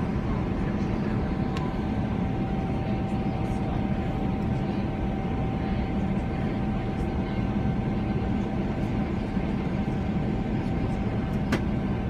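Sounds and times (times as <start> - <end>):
airflow over fuselage: 0.0 - 12.0
constant thin whine: 0.0 - 12.0
jet engines in aircraft cabin: 0.0 - 12.0.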